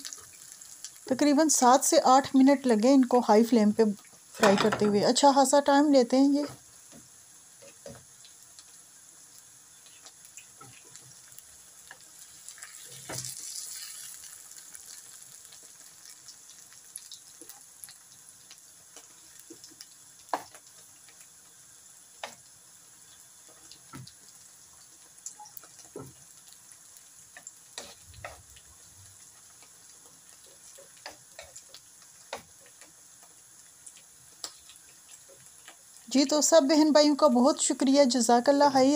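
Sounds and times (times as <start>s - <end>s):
vegetables sizzling in oil: 0.0s - 38.9s.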